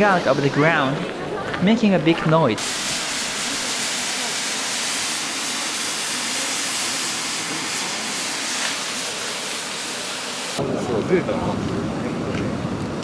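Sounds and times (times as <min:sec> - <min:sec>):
steam venting with loud hiss: 0:00.0 - 0:01.1, 0:02.0 - 0:12.1.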